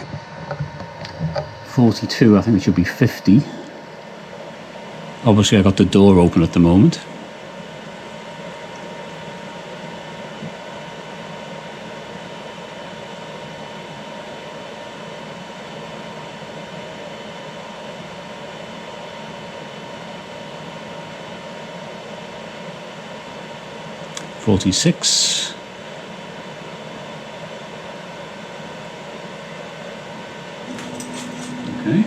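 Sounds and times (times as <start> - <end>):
cooling fans whirring: 0.0 - 32.0
faint high hum: 0.0 - 32.0.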